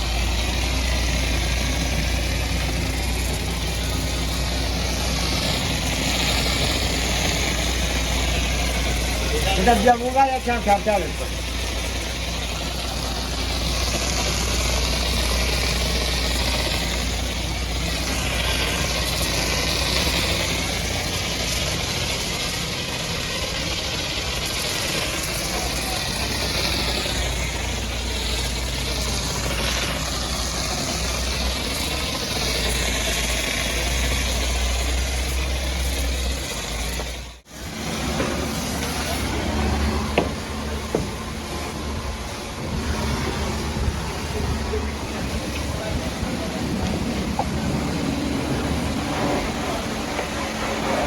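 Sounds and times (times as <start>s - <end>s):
pressure washer jet hissing: 0.0s - 51.0s.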